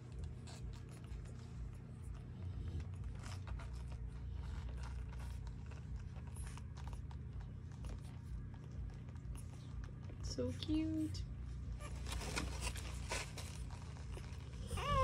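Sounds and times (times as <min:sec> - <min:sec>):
puppies suckling: 0:00.0 - 0:15.0
steady low hum: 0:00.0 - 0:15.0.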